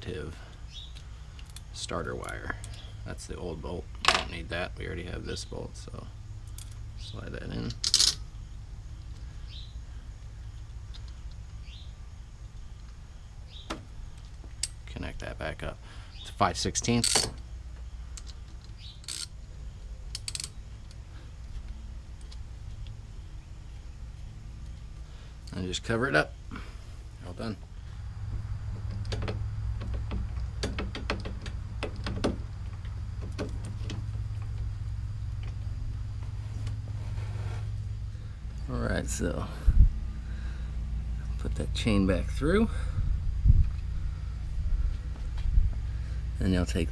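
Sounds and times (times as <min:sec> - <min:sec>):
low background rumble: 0:00.0 - 0:46.9
steady low hum: 0:00.0 - 0:46.9.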